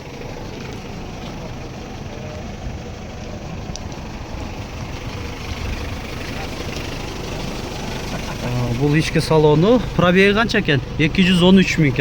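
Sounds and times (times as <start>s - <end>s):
outdoor noise: 0.0s - 12.0s
vehicle engine idling: 0.0s - 12.0s.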